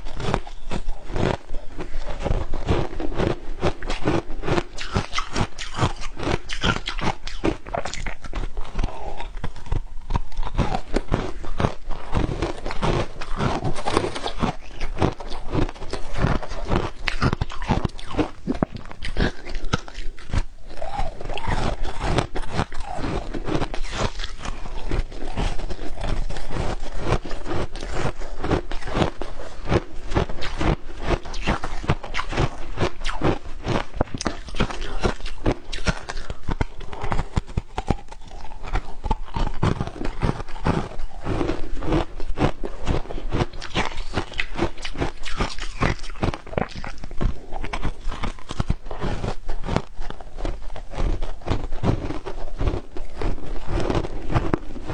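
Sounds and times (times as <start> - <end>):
chewing crushed ice: 0.0 - 54.9.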